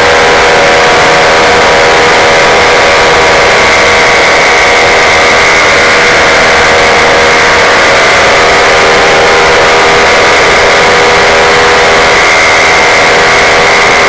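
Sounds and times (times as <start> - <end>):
paramotor engine droning: 0.0 - 14.0.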